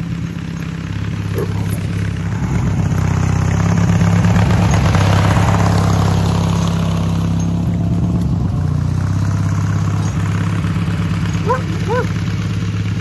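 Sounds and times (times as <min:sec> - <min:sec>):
garden tractor engine running: 0:00.0 - 0:13.0.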